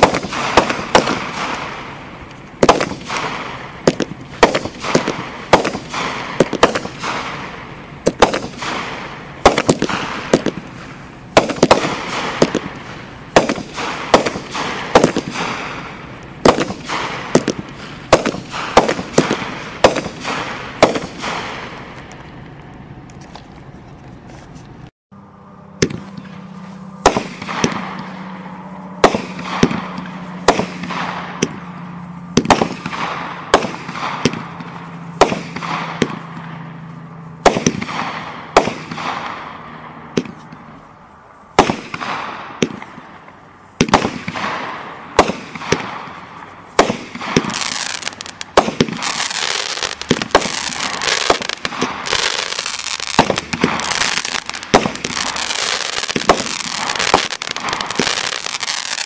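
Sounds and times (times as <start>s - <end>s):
firework bangs: 0.0s - 23.4s, 25.8s - 59.0s
dense firework crackling: 0.0s - 24.4s, 25.8s - 59.0s.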